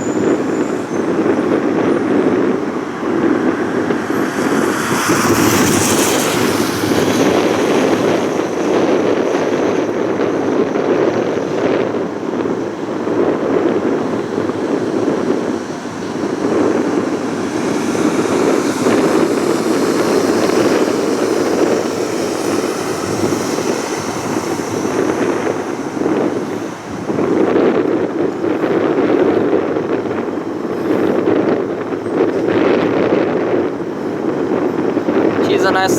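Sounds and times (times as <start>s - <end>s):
jet engine rumble: 0.0s - 35.9s.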